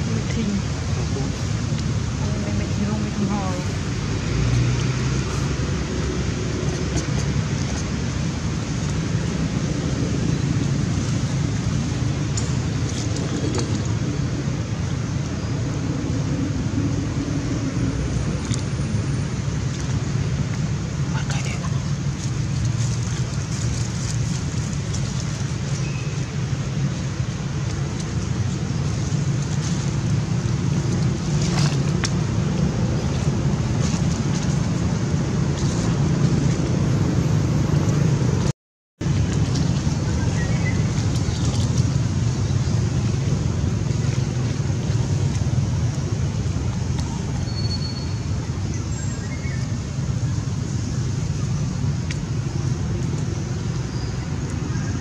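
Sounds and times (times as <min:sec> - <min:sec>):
low rumbling background noise: 0:00.0 - 0:55.0.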